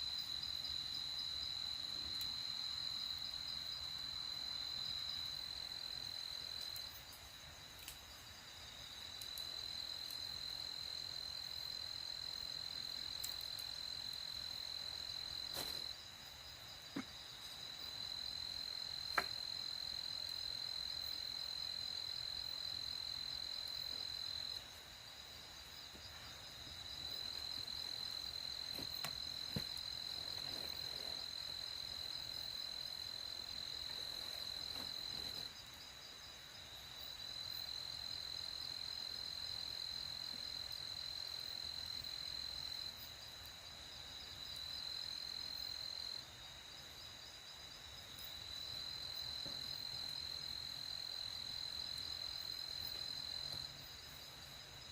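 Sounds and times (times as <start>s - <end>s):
crickets chirring: 0.0s - 54.9s.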